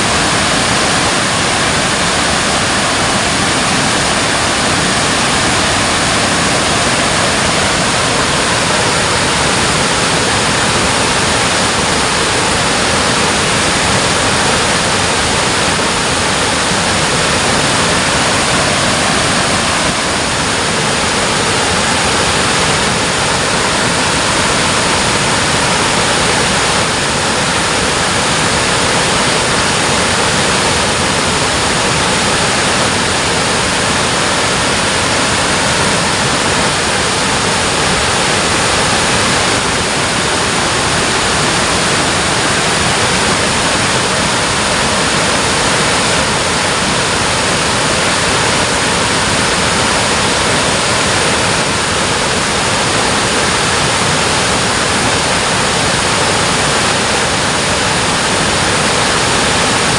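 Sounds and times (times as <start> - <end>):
water pouring over a dam: 0.0 - 59.9.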